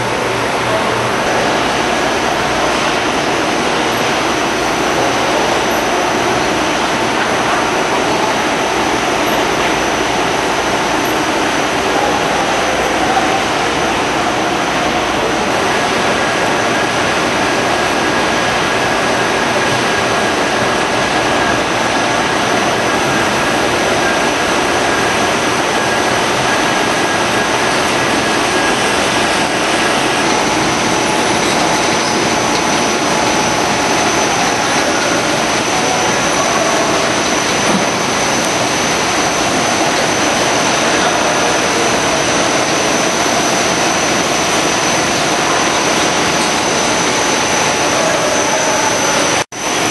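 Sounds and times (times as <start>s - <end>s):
high-pitched whine: 0.0s - 49.9s
whir of conveyors and rollers: 0.0s - 49.9s.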